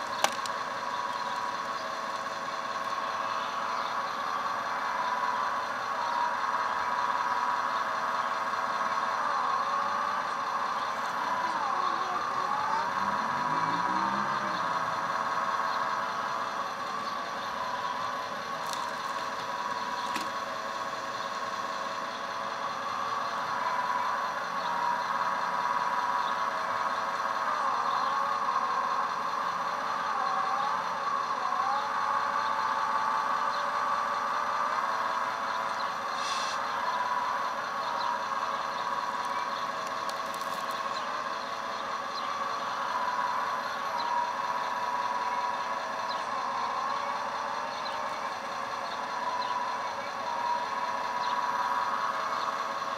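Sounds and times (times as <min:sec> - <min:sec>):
simulated diesel engine sound: 0:00.0 - 0:52.9.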